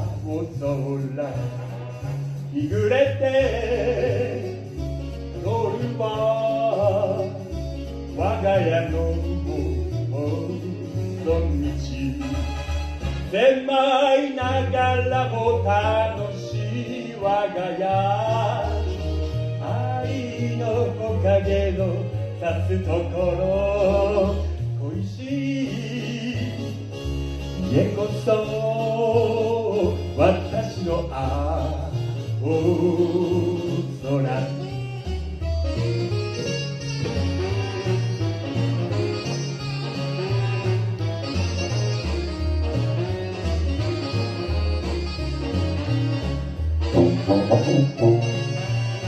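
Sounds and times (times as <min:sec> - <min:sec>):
song with singing voice: 0:00.0 - 0:49.0
stepping bass line: 0:00.0 - 0:49.0.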